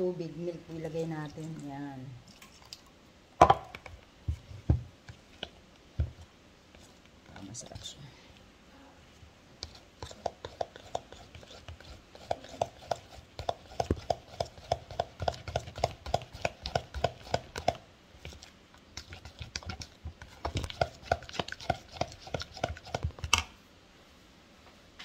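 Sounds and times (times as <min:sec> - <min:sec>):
metal spoon stirring batter in bowl: 0:00.5 - 0:02.8, 0:03.7 - 0:08.0, 0:09.6 - 0:23.4.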